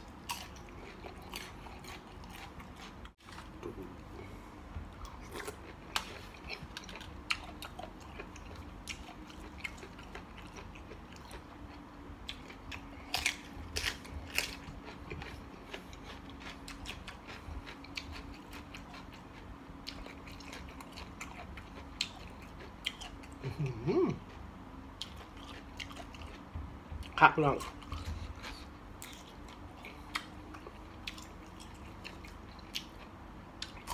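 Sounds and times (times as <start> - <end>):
faint steady hum: 0.0 - 33.9
person chewing food: 0.0 - 33.9.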